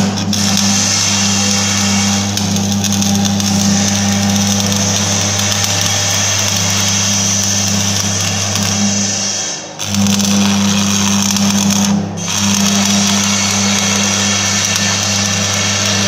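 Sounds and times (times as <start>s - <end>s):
constant low hum: 0.0s - 16.0s
welding arc crackling hiss: 0.0s - 16.0s.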